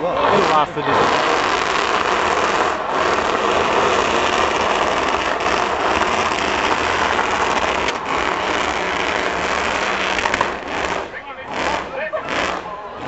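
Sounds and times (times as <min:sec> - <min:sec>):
car engine at high revs: 0:00.0 - 0:13.0
tyres spinning: 0:00.0 - 0:13.0.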